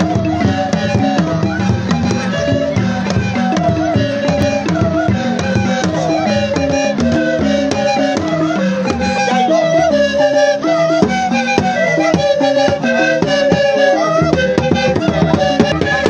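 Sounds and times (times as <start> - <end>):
drum ensemble playing fast rhythm: 0.0 - 16.0
high held melody: 0.0 - 16.0.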